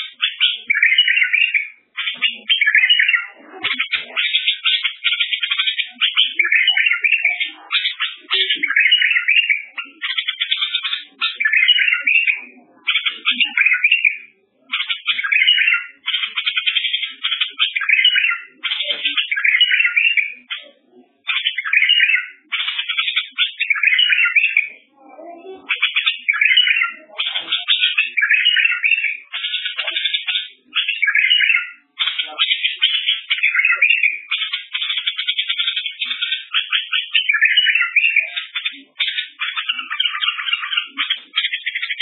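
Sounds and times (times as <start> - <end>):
songbird singing trills and warbles: 0.0 - 42.0.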